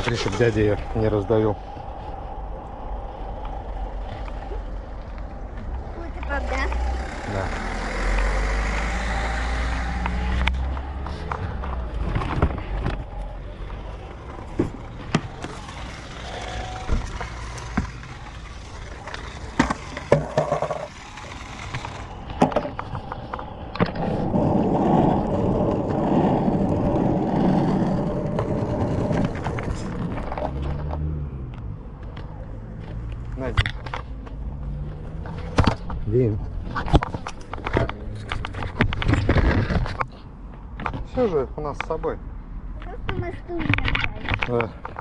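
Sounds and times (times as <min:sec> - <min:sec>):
small wheels rolling over pavement: 0:00.0 - 0:40.2, 0:42.8 - 0:45.0.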